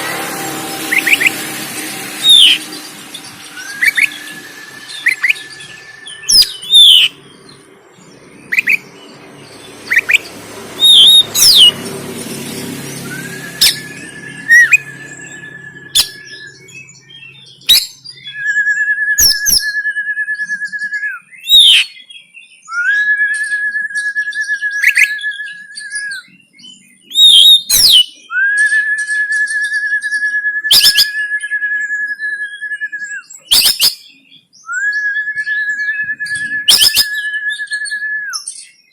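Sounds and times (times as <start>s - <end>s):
bird singing whistled calls: 0.0s - 11.8s, 13.0s - 38.9s.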